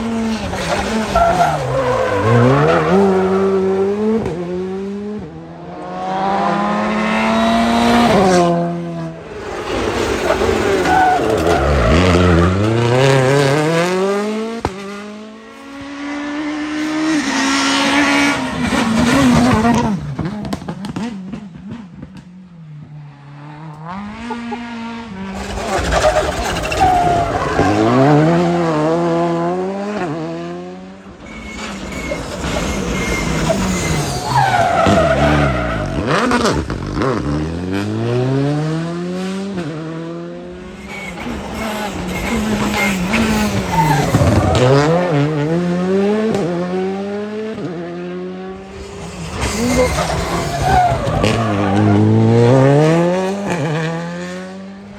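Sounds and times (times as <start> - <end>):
rally car engine accelerating: 0.0 - 54.9.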